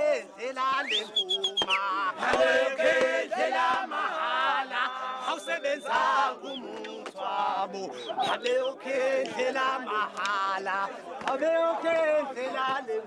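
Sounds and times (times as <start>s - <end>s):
men chanting together: 0.0s - 13.0s.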